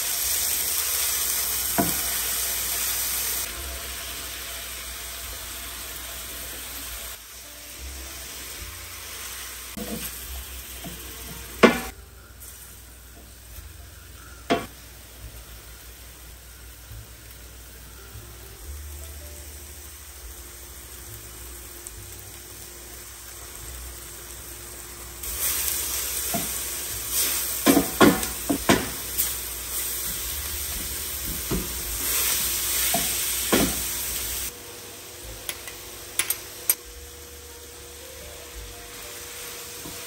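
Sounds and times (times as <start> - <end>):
meat sizzling in a pan: 0.0 - 40.0.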